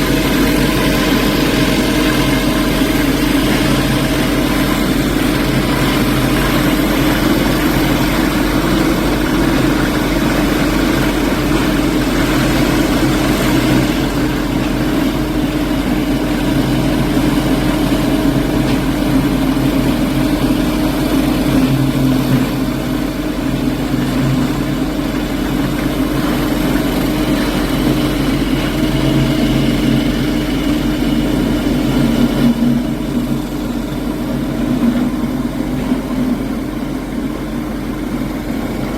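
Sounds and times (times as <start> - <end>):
construction machinery engine: 0.0 - 38.9.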